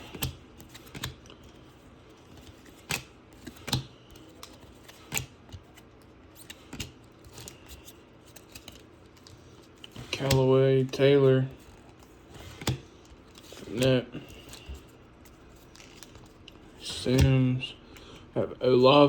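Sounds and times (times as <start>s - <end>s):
card edges clicking and snapping: 0.0s - 18.2s
trading cards sliding: 0.0s - 18.9s.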